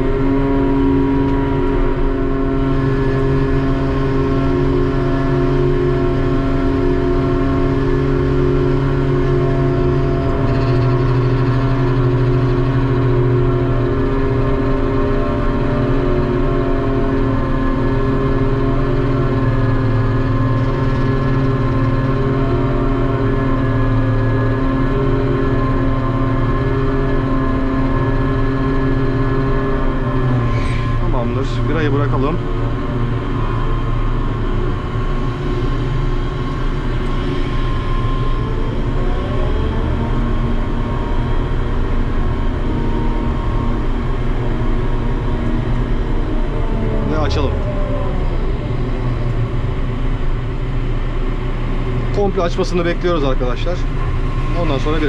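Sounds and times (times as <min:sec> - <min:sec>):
crane machinery droning: 0:00.0 - 0:55.0.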